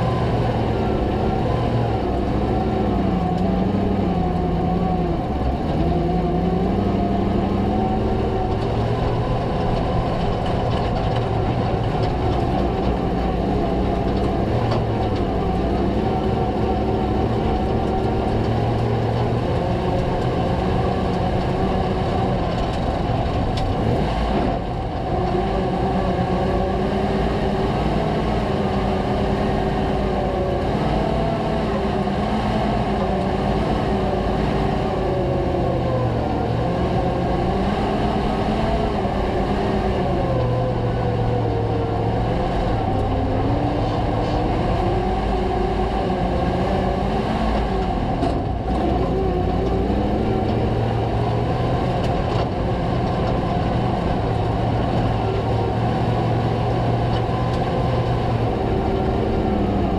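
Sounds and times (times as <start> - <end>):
tracked vehicle engines: 0.0 - 59.9.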